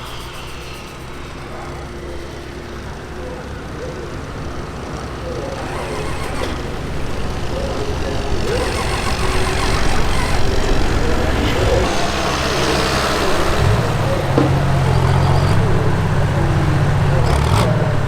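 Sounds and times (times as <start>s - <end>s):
diesel truck engine running hard: 0.0s - 18.0s
faint voices: 0.0s - 18.0s.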